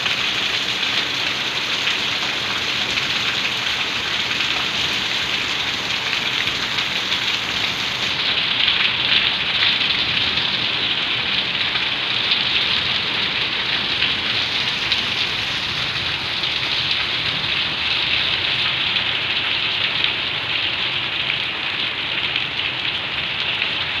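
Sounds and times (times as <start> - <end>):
heavy rain on concrete: 0.0 - 24.0.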